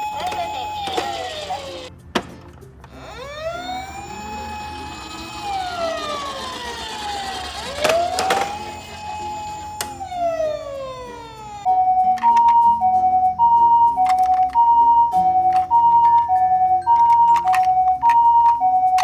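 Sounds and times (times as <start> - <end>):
emergency vehicle siren wailing: 0.0 - 1.9, 3.0 - 19.0.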